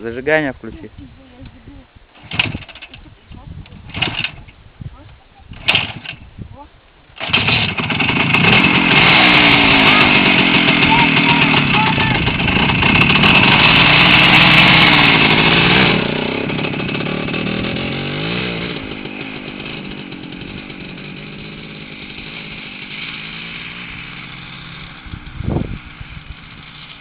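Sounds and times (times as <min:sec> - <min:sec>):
motorcycle engine revving: 0:02.2 - 0:03.1, 0:03.8 - 0:04.5, 0:05.4 - 0:06.3, 0:07.2 - 0:27.0.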